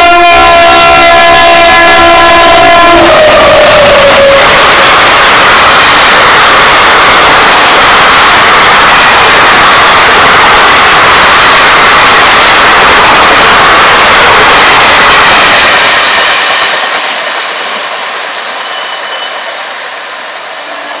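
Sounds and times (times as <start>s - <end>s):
train wheels roaring on rail: 0.0s - 21.0s.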